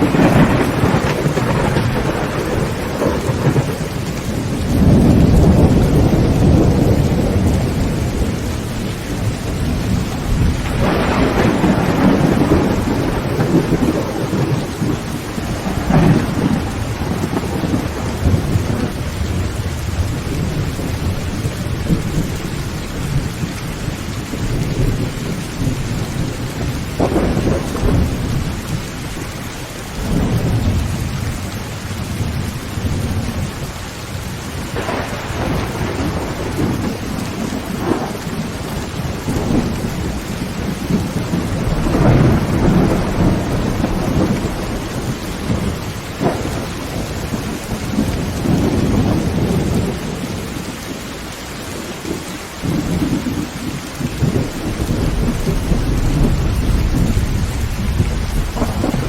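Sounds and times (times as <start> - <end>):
thunder rolling: 0.0 - 33.7, 34.4 - 51.0, 51.8 - 59.0
heavy rain on a tin roof: 0.0 - 59.0.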